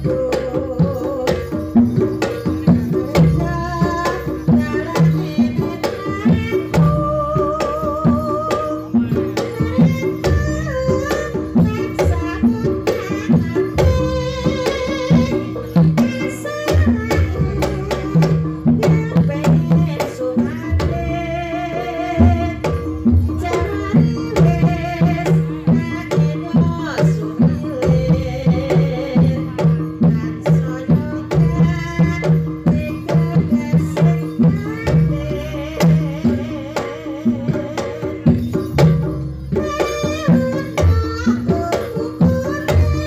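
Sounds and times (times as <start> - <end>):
hand drums beating: 0.0 - 43.0
held gamelan tones: 0.0 - 43.0.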